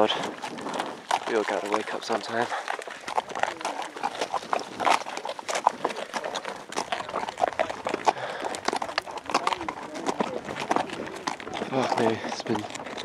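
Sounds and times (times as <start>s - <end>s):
horse hooves clopping: 0.0s - 13.0s.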